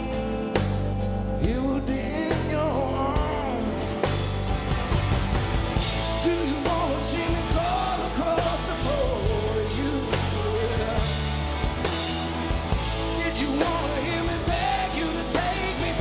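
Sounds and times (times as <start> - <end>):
bass guitar: 0.0 - 16.0
electric guitar: 0.0 - 16.0
gliding melodic lead line: 0.0 - 16.0.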